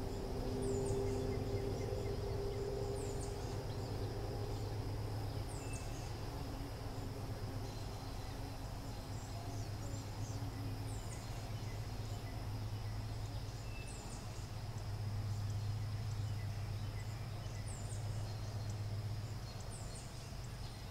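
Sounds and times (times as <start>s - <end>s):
faint high whine: 0.0s - 20.9s
steady low hum: 0.0s - 20.9s.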